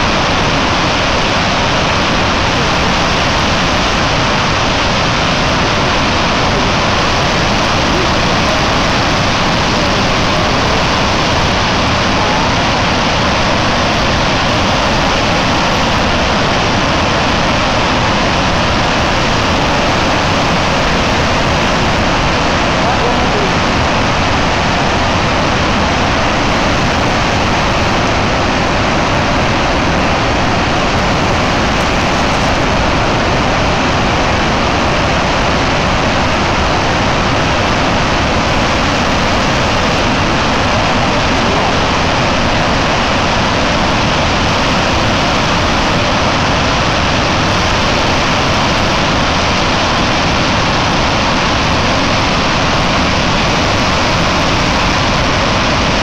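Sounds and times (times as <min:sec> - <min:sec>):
water rushing from spillway: 0:00.0 - 0:56.0.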